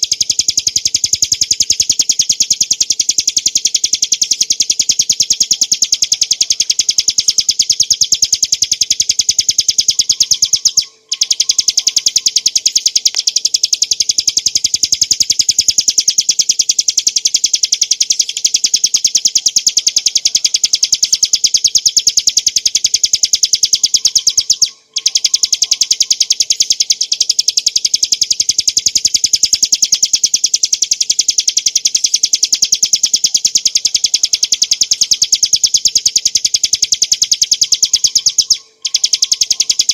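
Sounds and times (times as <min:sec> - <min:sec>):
bird singing fast repeated notes: 0:00.0 - 0:39.9.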